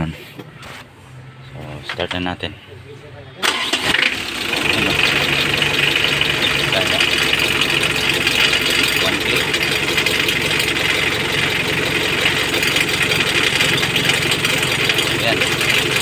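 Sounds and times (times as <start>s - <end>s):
diesel engine idling: 2.4s - 16.0s.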